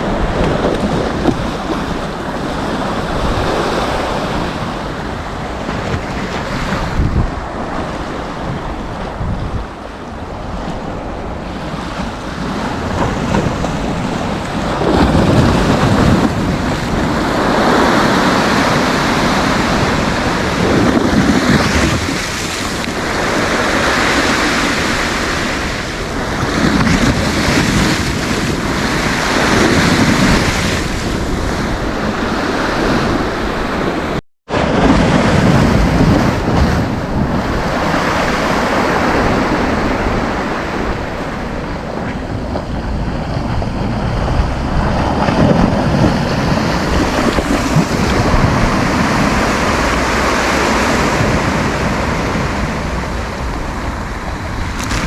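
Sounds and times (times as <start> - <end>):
sea waves breaking: 0.0 - 55.0
wind buffeting microphone: 0.0 - 55.0.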